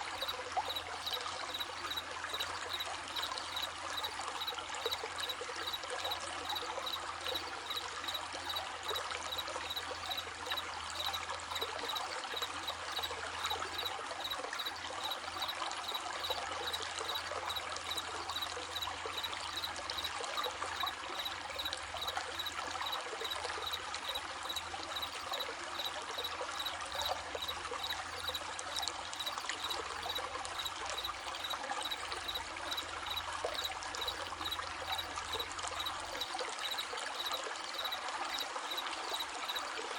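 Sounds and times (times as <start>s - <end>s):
crickets chirping: 0.0s - 39.9s
stream babbling over stones: 0.0s - 39.9s.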